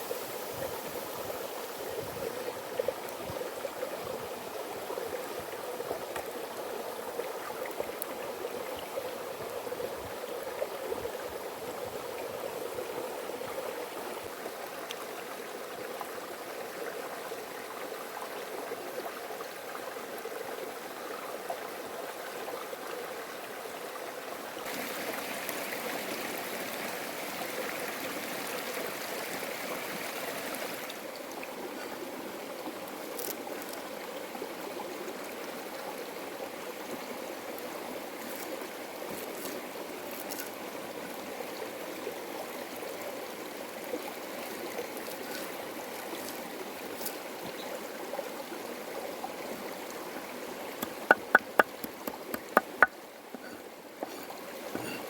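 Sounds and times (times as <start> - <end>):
stream running water: 0.0 - 55.0.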